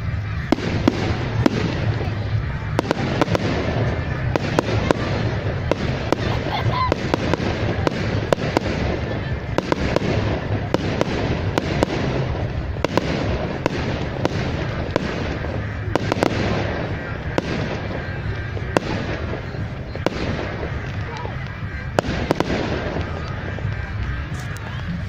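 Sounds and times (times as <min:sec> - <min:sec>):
fireworks bursts rumbling: 0:00.0 - 0:25.0
sharp fireworks bangs and cracks: 0:00.0 - 0:25.0.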